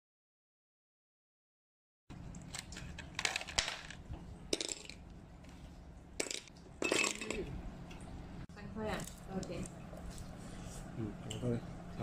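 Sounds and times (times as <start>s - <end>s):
low steady hum: 2.1s - 12.0s.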